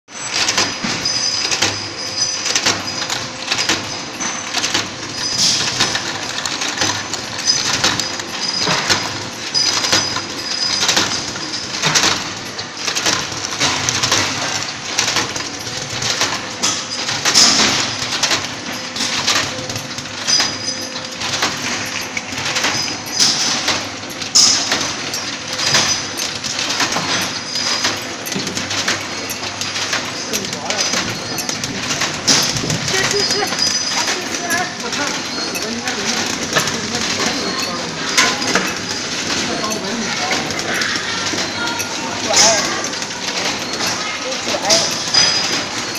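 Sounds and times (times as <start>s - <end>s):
faint machine hum: 0.1s - 45.9s
metallic clicks and clinks: 0.3s - 45.9s.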